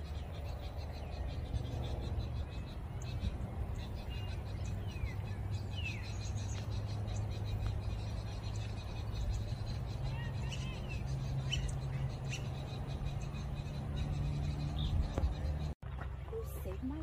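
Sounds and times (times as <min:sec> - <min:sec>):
rising and falling bird calls: 0:00.0 - 0:15.8
small birds chirping: 0:00.0 - 0:17.0.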